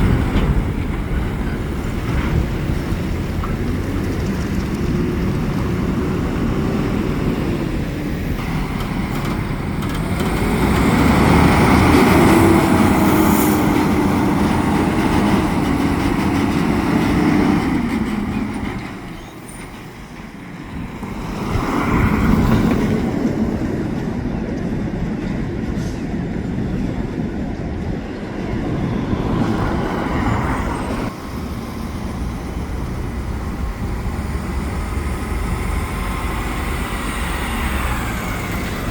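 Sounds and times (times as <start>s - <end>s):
heavy vehicles driving past: 0.0s - 24.0s, 28.4s - 38.9s.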